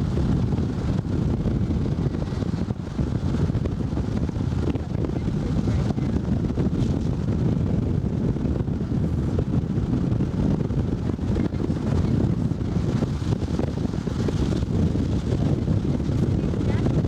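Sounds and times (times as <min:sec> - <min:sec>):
car driving low rumble: 0:00.0 - 0:17.0
wind buffeting microphone: 0:00.0 - 0:17.0.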